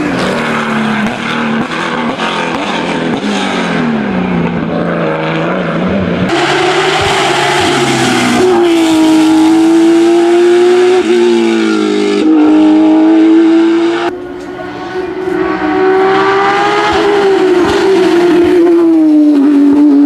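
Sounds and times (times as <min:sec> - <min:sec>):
racing engine at high revs: 0:00.0 - 0:20.0.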